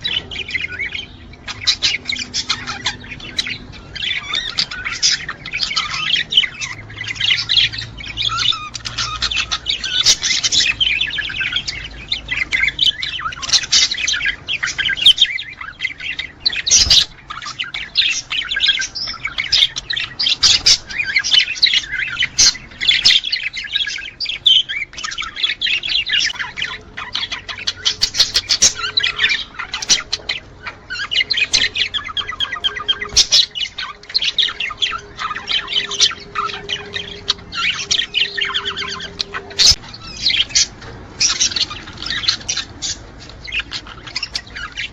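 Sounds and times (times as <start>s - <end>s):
budgerigar squawks: 0.0s - 44.9s
budgerigars chirping and warbling: 0.0s - 44.9s.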